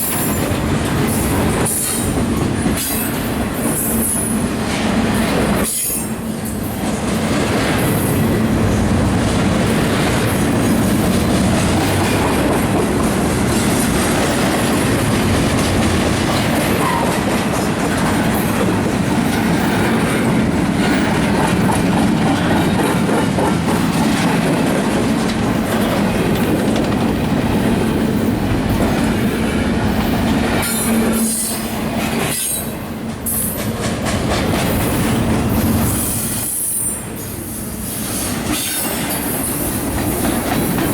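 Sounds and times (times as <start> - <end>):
freight train rolling past: 0.0 - 40.9.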